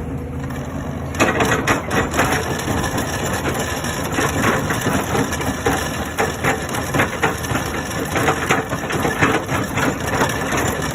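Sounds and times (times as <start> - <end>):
excavator engine running: 0.0 - 10.9.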